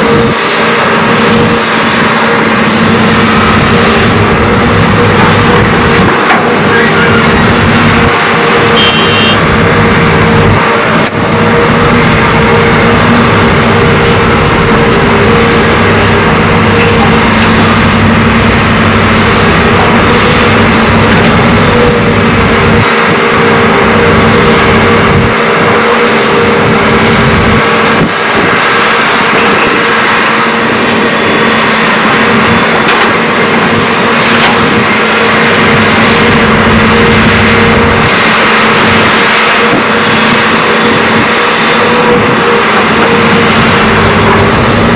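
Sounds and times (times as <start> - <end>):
heavy diesel excavator engines: 0.0 - 44.9.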